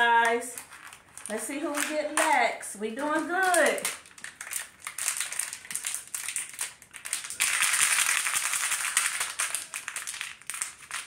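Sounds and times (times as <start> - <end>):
packaging clicks and crinkles: 0.0 - 11.0
packaging rustle: 0.1 - 2.3, 3.0 - 11.0.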